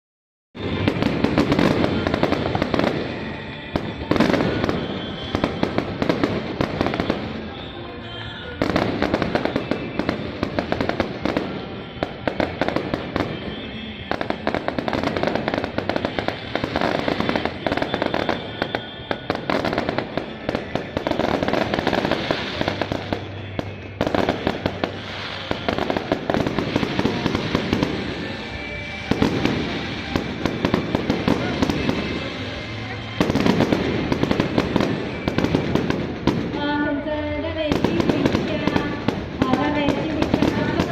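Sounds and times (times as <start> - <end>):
fireworks crackling and popping: 0.6 - 40.9.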